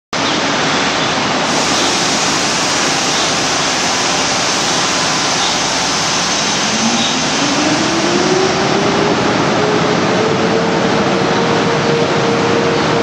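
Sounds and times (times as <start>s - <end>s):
locomotive cooling blowers running: 0.5s - 13.0s.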